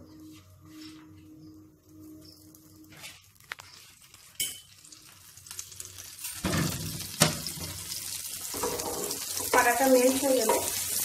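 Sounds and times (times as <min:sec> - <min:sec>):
butter sizzling in a pan: 0:01.5 - 0:11.0.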